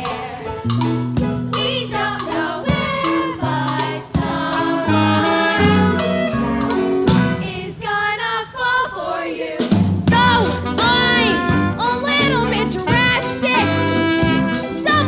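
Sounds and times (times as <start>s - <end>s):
young people singing: 0.0s - 0.8s, 1.5s - 13.6s
instrumental accompaniment: 0.0s - 7.7s, 9.7s - 15.0s.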